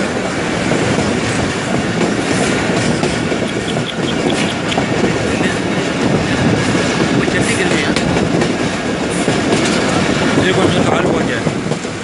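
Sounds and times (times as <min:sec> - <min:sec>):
rumble of wheels on rail: 0:00.0 - 0:12.0.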